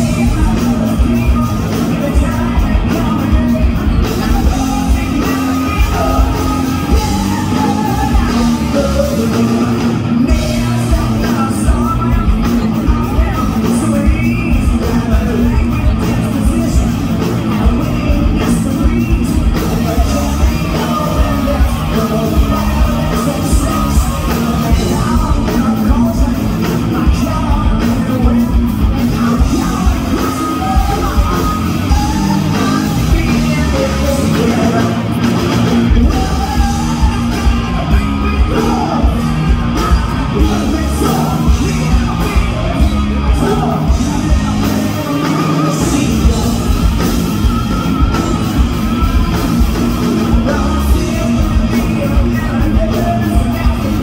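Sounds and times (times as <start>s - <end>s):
hard rock band playing: 0.0s - 54.0s
lead vocal singing and yelling: 0.0s - 54.0s.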